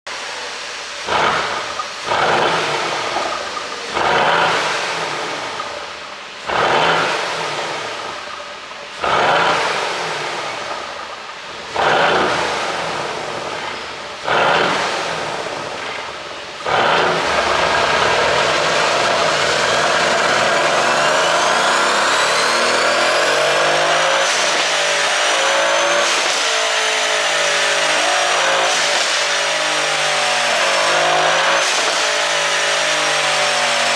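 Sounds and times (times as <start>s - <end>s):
car engine revving with exhaust crackle: 0.2s - 33.9s.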